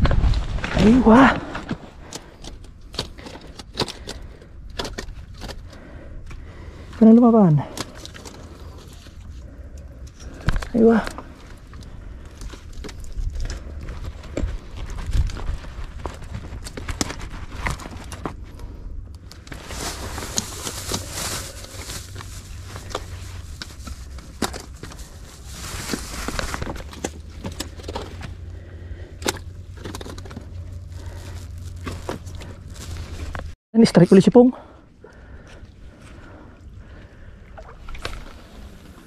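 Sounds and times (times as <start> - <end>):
steady low rumble: 0.0 - 33.6.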